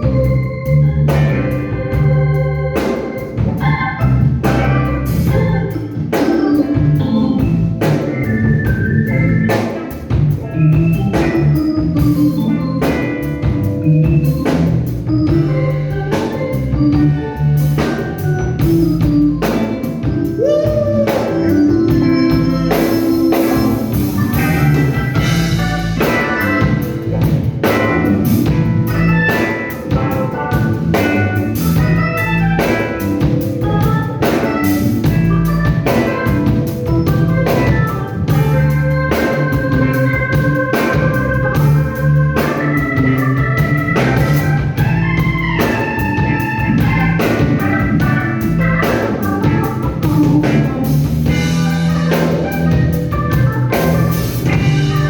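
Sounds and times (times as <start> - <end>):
blues band playing: 0.0 - 55.0
drum kit beat: 0.0 - 55.0
organ: 0.0 - 55.0.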